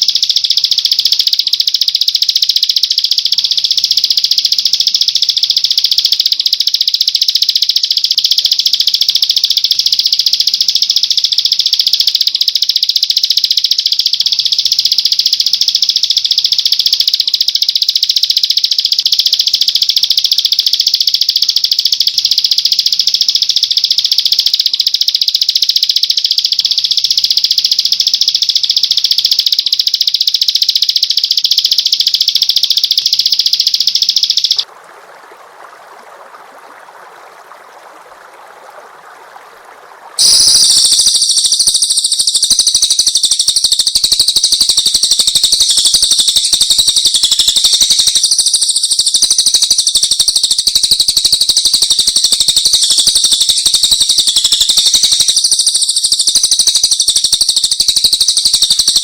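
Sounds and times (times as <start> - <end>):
songbird trilling: 0.0 - 34.6, 40.2 - 59.0.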